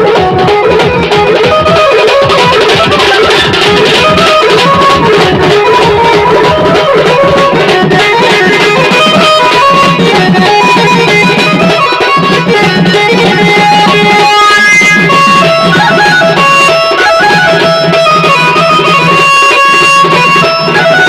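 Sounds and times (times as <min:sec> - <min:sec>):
amplified band music with drums: 0:00.0 - 0:21.0.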